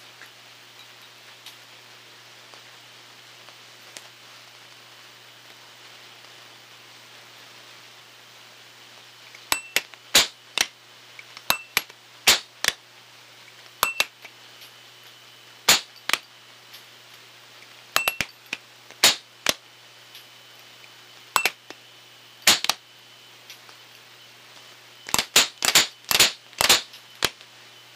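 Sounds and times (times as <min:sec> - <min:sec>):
low steady hiss: 0:00.0 - 0:27.9.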